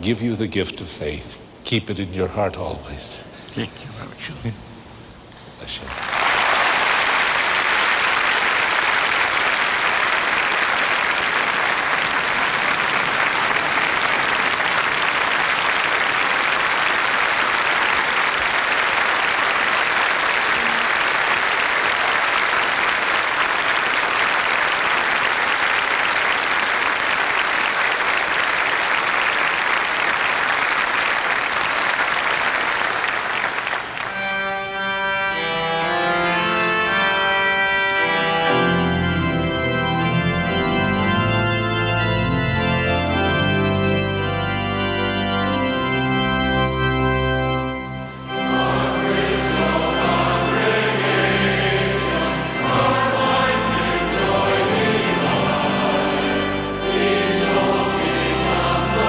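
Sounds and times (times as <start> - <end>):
congregation applauding: 5.8 - 35.2, 38.5 - 59.0
organ playing sustained chords: 5.9 - 59.0.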